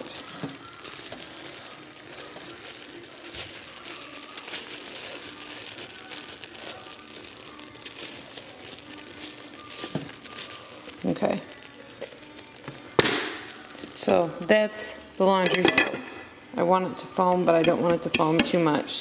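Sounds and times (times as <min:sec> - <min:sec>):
soap paste crackling: 0:00.0 - 0:15.2.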